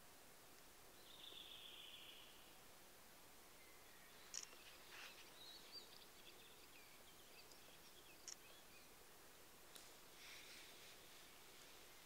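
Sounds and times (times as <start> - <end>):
background hiss: 0.0 - 12.0
songbird chirps and warbles: 0.0 - 12.0.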